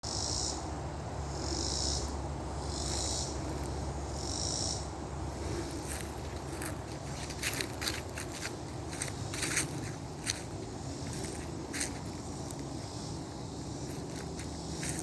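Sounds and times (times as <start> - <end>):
insects buzzing in chorus: 0.0 - 15.0
steady low rumble: 0.3 - 15.0.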